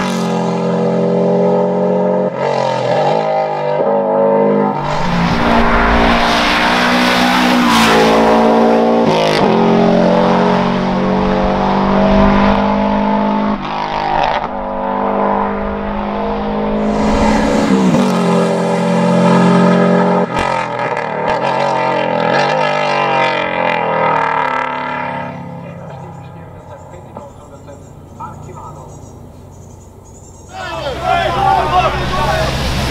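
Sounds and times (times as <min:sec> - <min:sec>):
race car engine passing: 0:00.0 - 0:32.9.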